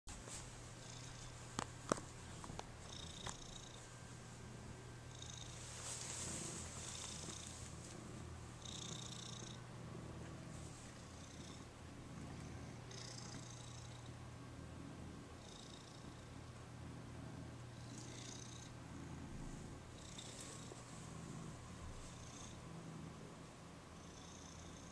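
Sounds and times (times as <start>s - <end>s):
cat purring: 0.2s - 24.9s.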